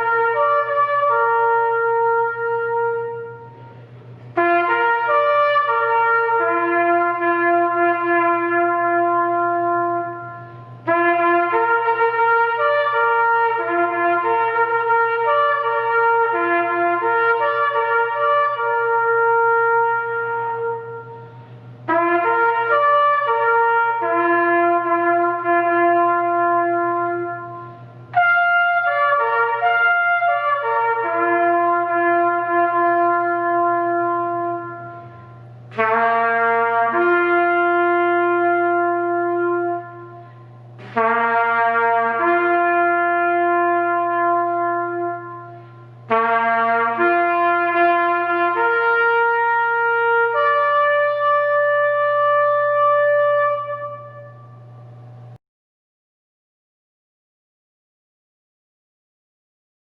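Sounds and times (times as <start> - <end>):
trumpet playing slow melody: 0.0 - 55.4.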